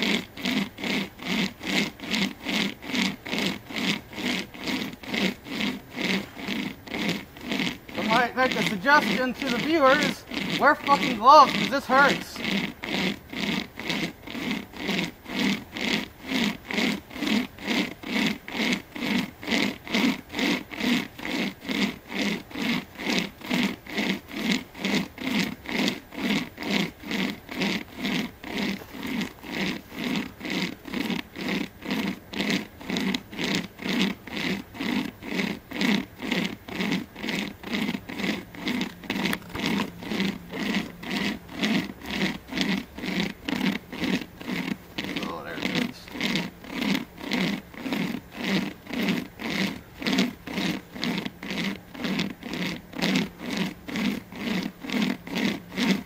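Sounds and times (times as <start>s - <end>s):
hand chain saw rasping through wood: 0.0s - 56.0s.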